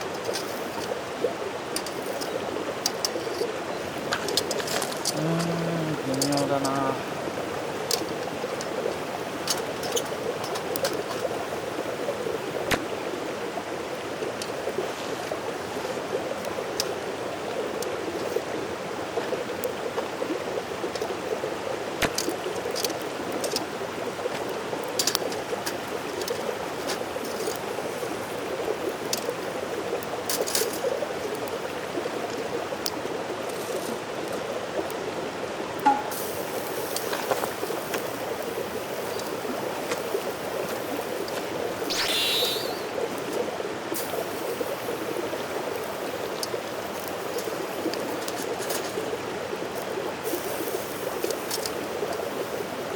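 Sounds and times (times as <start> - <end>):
mountain stream running: 0.0 - 52.9.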